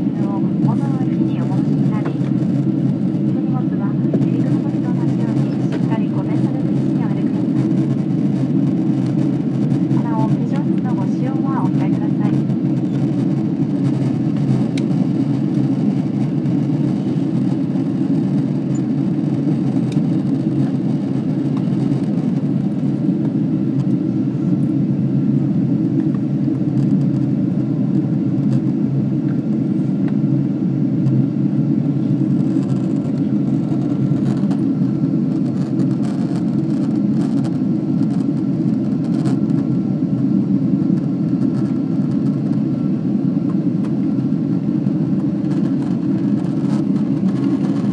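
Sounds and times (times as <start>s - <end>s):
airliner cabin noise: 0.0s - 47.9s.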